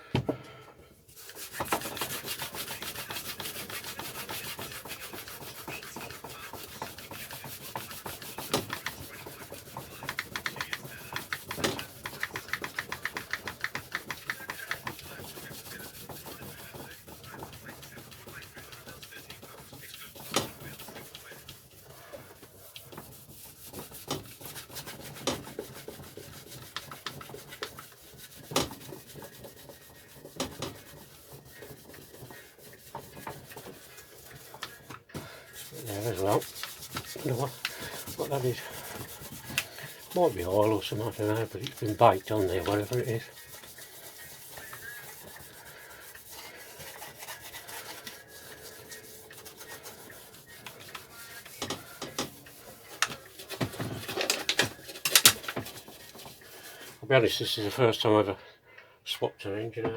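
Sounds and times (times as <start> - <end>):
scrubbing strokes on metal: 1.1 - 57.9.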